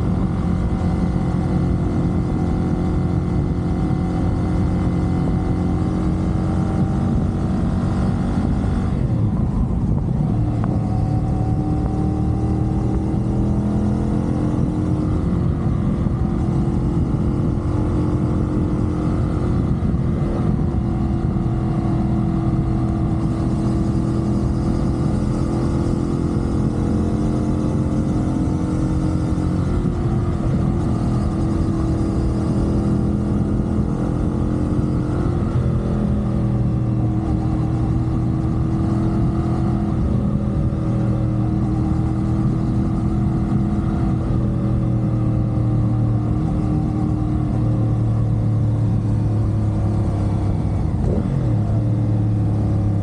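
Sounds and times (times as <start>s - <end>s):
motorcycle engine running: 0.0s - 53.0s
wind rush: 0.0s - 53.0s.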